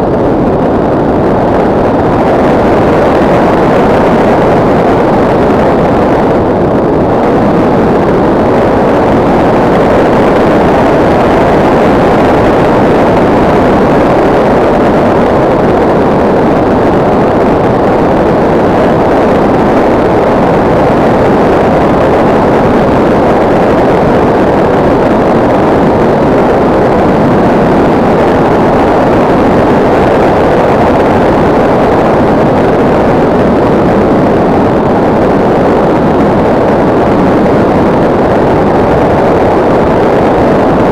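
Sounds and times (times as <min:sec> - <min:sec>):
air rushing over camera: 0:00.0 - 0:40.9.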